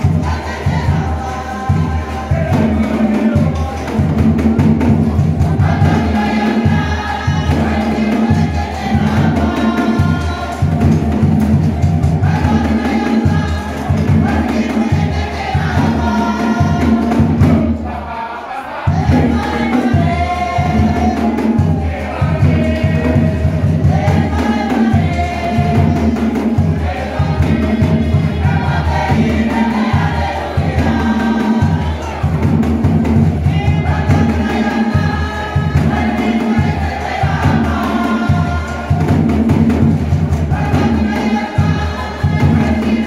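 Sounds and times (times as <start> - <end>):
group singing over heavy beat: 0.0 - 43.0.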